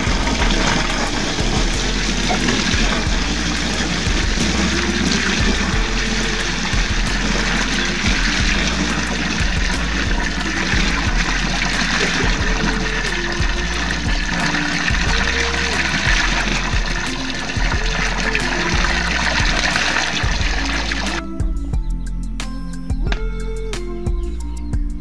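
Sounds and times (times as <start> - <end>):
water pouring into pool: 0.0 - 21.2.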